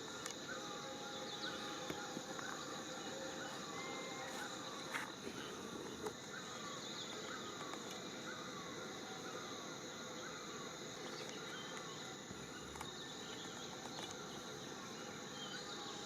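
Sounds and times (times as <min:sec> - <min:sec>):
insect trilling: 0:00.0 - 0:16.0.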